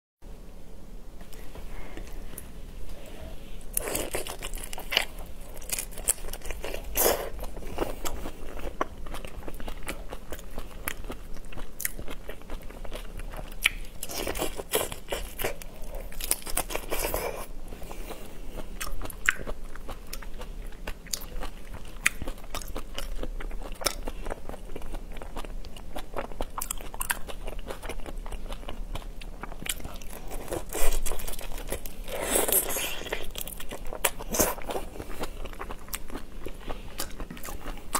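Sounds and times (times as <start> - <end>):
crunching and chewing shrimp: 3.6 - 37.9.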